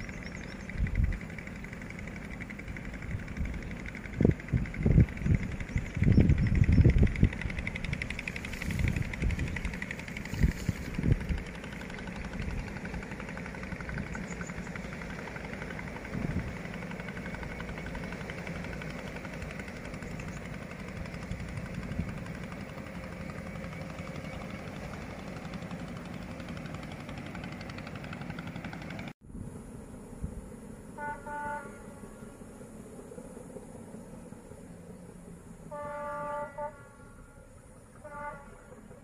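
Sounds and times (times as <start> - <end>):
diesel locomotive engines under load: 0.0 - 39.0.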